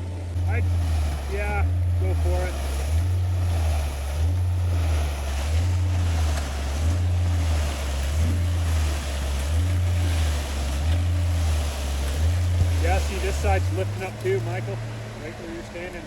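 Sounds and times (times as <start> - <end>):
concrete pump engine surging: 0.0 - 16.0.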